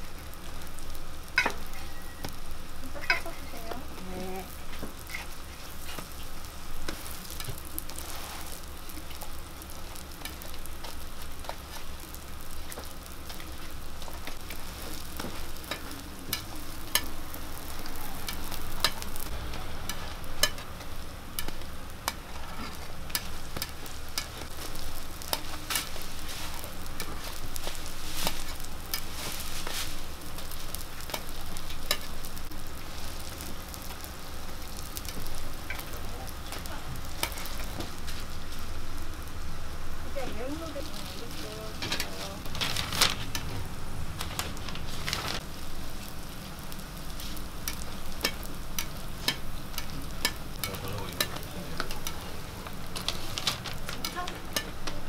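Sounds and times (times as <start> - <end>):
food sizzling on griddle: 0.0 - 55.0.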